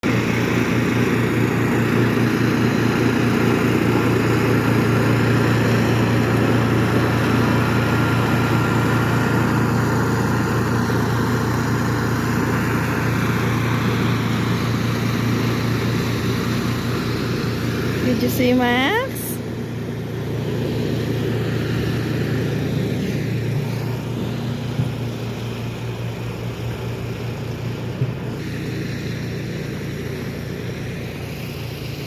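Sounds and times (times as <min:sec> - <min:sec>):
motor humming: 0:00.0 - 0:32.0.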